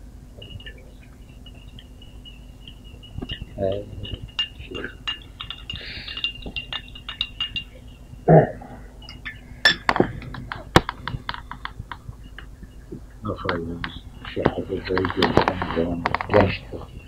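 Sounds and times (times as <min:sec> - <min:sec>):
glasses and dishes clinking: 0:00.4 - 0:08.1, 0:09.0 - 0:17.0.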